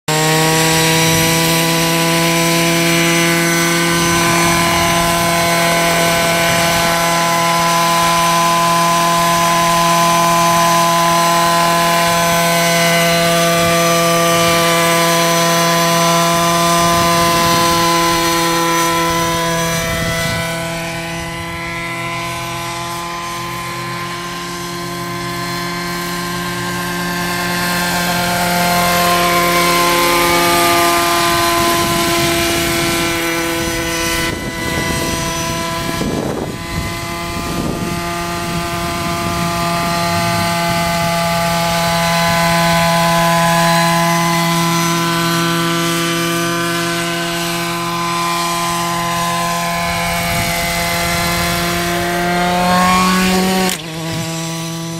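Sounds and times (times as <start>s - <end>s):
model helicopter rotor drone: 0.0s - 54.9s.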